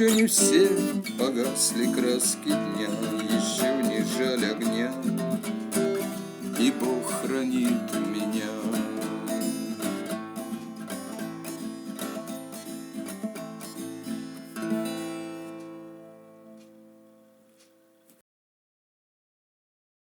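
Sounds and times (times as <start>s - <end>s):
guitar strumming: 0.0s - 18.0s.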